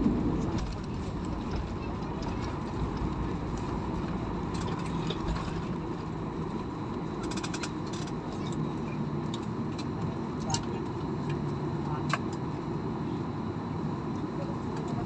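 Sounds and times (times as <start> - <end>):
engine and airflow drone: 0.0 - 15.0.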